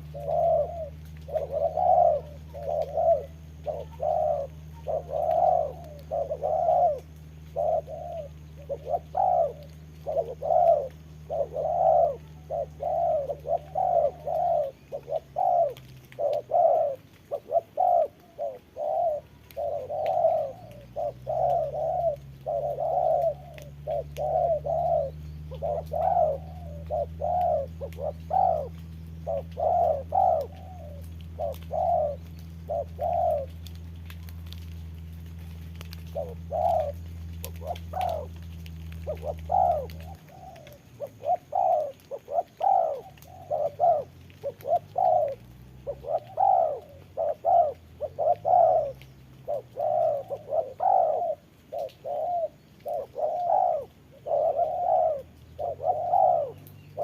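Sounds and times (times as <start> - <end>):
doves cooing: 0.0 - 57.0
low steady hum: 0.0 - 57.0.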